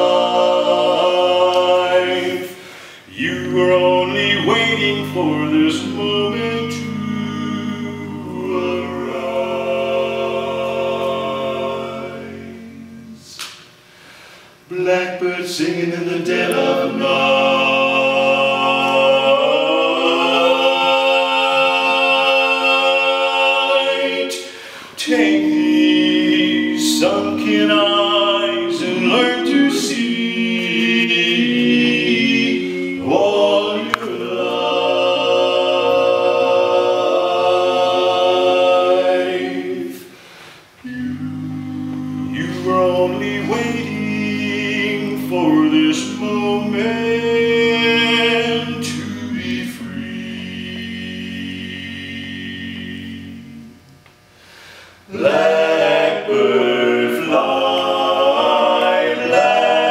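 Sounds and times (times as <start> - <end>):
men singing in harmony: 0.0 - 13.4, 14.7 - 40.0, 40.8 - 53.6, 55.1 - 59.9.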